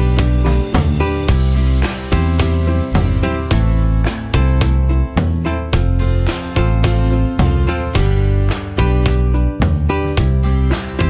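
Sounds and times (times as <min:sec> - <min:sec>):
instrumental music with deep bass: 0:00.0 - 0:11.0.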